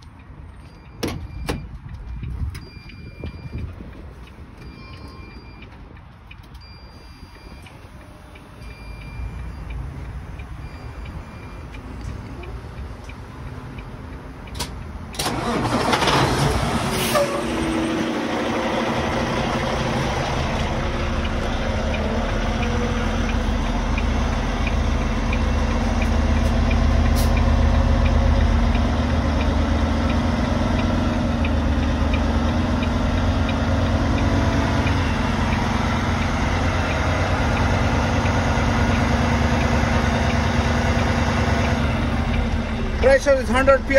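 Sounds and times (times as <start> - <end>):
diesel engine cranking and idling: 0.0 - 43.9.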